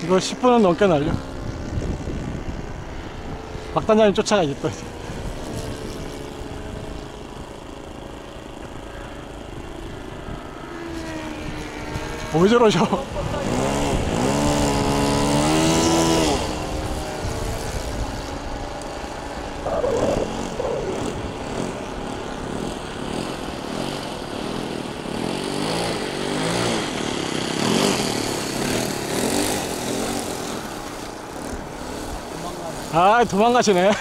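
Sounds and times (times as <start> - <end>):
model airplane engines droning: 0.0 - 34.0.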